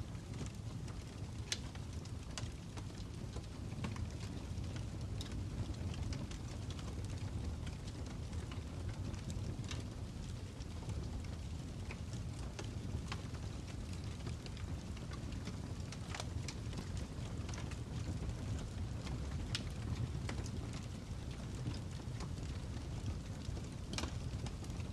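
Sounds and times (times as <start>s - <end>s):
fire crackling: 0.0s - 24.9s.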